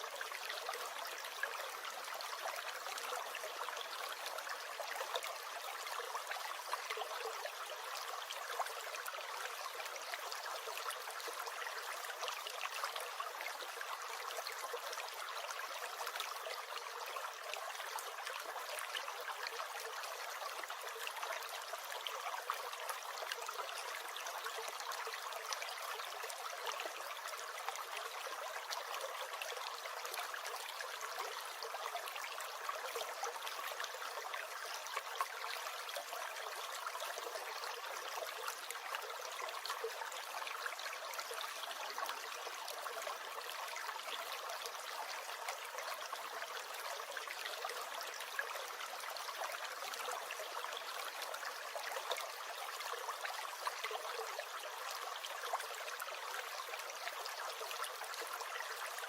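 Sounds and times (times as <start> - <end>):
small stream gurgling: 0.0 - 59.0.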